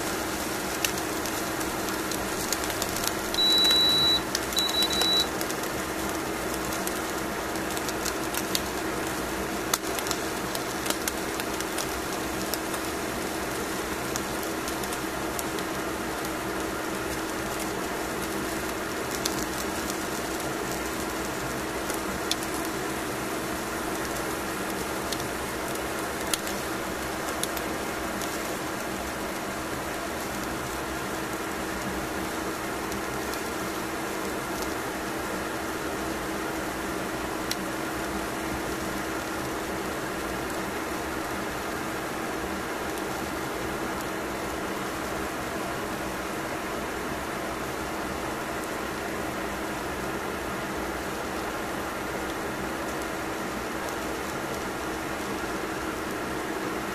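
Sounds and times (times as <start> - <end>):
fish crackling as it cooks: 0.0 - 56.9
oven humming: 0.0 - 56.9.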